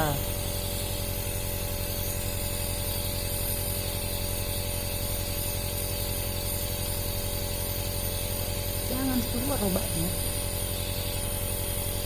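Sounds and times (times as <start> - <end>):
nebulizer pump pulsing hum: 0.0 - 12.0.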